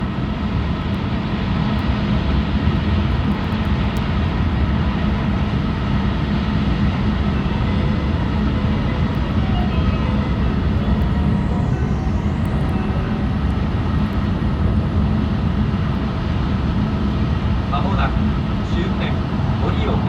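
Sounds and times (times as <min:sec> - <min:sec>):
train running at high speed: 0:00.0 - 0:20.0.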